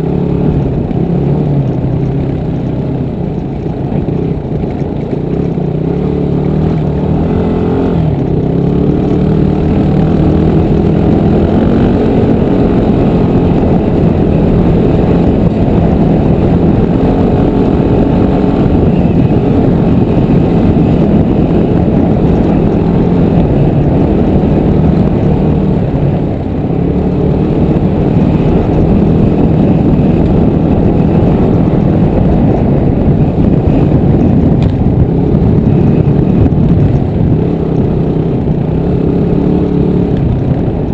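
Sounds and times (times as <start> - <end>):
constant rushing noise: 0.0 - 40.9
dirt bike engine revving: 5.1 - 40.9.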